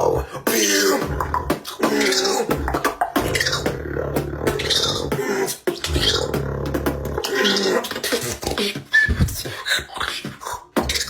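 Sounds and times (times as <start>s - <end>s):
person beatboxing: 0.0s - 11.0s.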